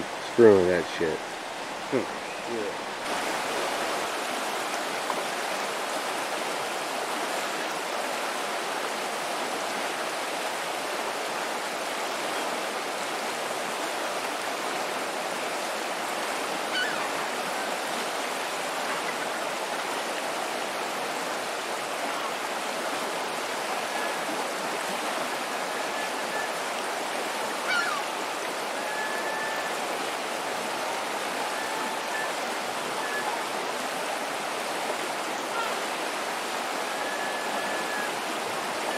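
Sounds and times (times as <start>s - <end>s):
river water rushing over riffle: 0.0s - 38.9s.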